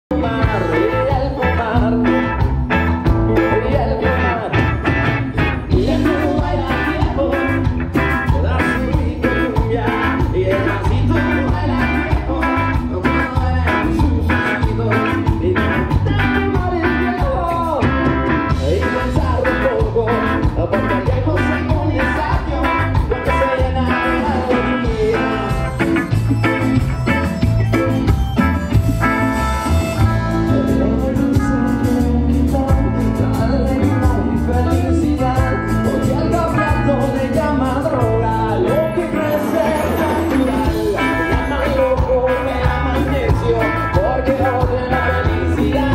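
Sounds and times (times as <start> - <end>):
drum kit: 0.1 - 45.9
electric bass: 0.1 - 45.9
electric guitars: 0.1 - 45.9
stage keyboard: 0.1 - 45.9.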